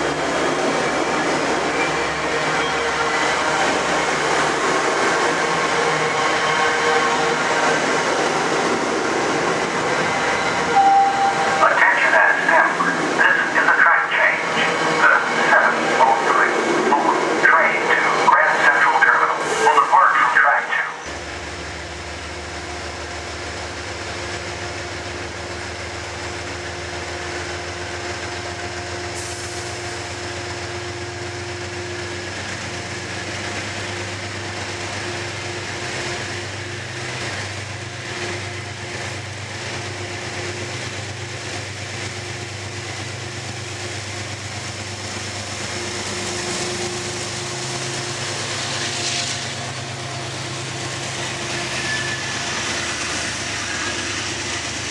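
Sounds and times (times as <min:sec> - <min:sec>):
train wheels on rails: 0:00.0 - 0:20.5, 0:21.1 - 0:54.9
diesel locomotive droning: 0:00.0 - 0:54.9.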